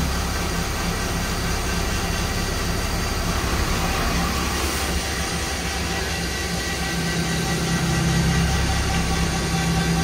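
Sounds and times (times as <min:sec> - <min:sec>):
machining center running: 0:00.0 - 0:10.0.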